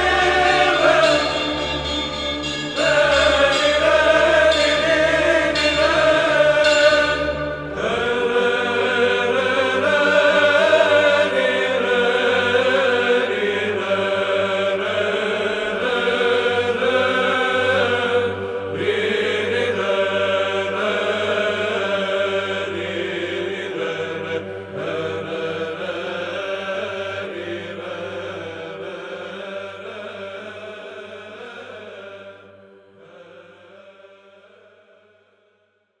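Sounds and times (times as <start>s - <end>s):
low held drone note: 0.0s - 33.5s
choir chanting: 0.0s - 35.2s.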